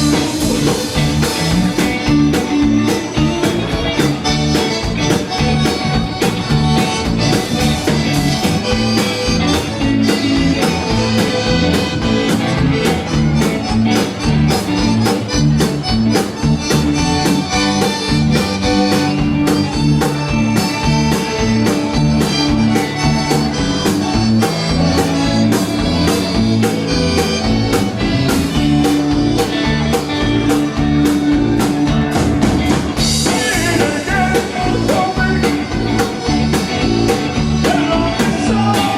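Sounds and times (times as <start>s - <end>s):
band playing dance music: 0.0s - 38.9s.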